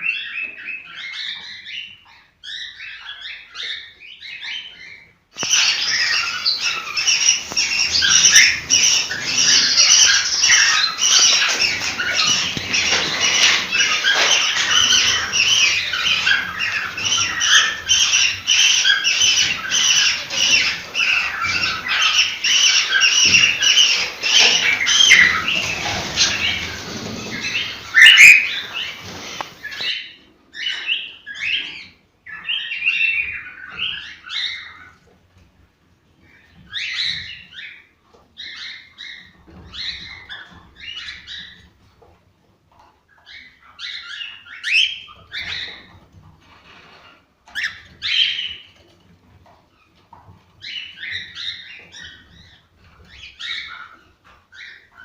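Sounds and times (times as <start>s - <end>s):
birds chirping and whistling: 0.0s - 35.0s, 36.3s - 37.8s, 38.4s - 41.7s, 43.2s - 46.0s, 47.5s - 48.9s, 50.6s - 55.0s.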